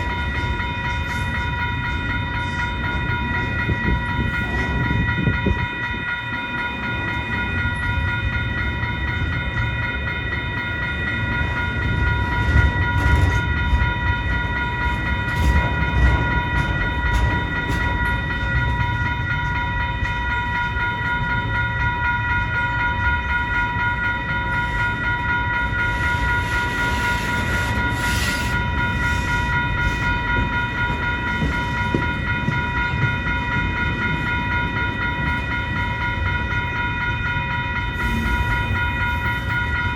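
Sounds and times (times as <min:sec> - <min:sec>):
freight train rumbling: 0:00.0 - 0:39.9
high-pitched ringing tone: 0:00.0 - 0:39.9
wheels clicking on rail joints: 0:00.0 - 0:39.9.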